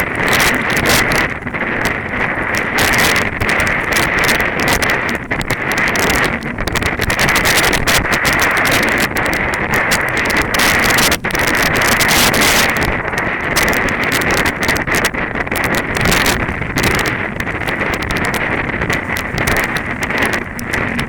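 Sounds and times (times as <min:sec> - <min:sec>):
running footsteps: 0:00.0 - 0:21.0
wind buffeting microphone: 0:00.0 - 0:21.0.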